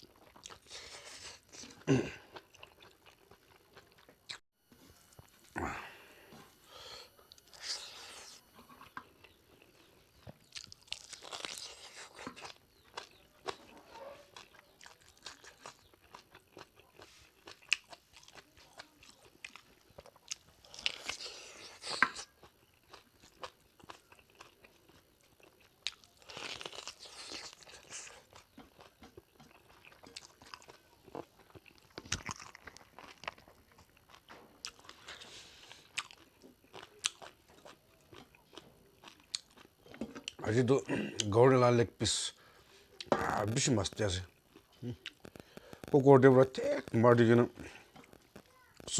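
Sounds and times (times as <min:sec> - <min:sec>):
chewing and crunching: 0:00.0 - 0:06.5, 0:07.2 - 0:48.9.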